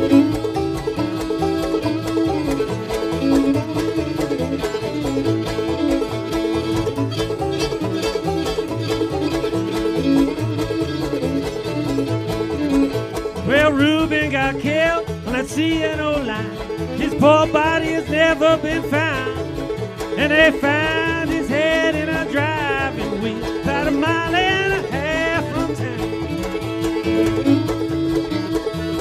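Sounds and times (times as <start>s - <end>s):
string band playing: 0.0s - 29.0s
walking bass: 0.0s - 29.0s.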